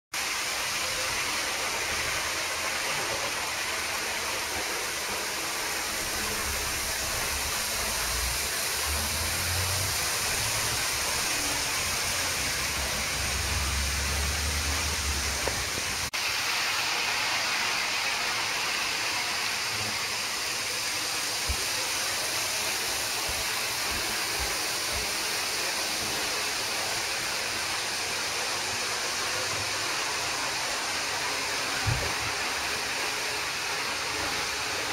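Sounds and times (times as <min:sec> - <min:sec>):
steady hiss: 0:00.2 - 0:34.9.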